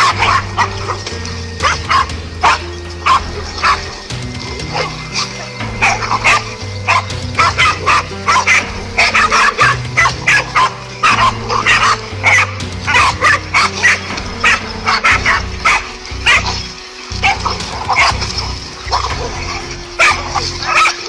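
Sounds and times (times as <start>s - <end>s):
background music: 0.0s - 21.0s
dog barking: 0.0s - 21.0s.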